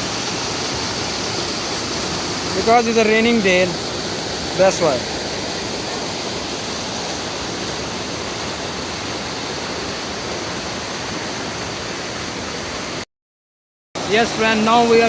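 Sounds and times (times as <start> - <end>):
stream rushing down waterfalls: 0.0 - 13.0, 14.0 - 15.0.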